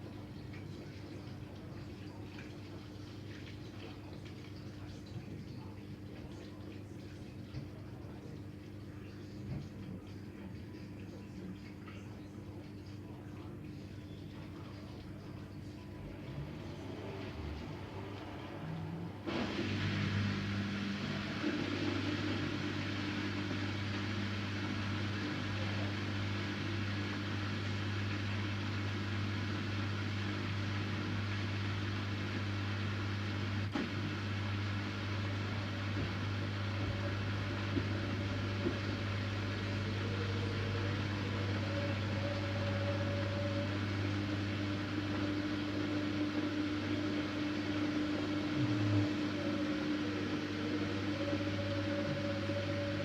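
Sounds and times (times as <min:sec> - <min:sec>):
washing machine humming: 0:00.0 - 0:53.0.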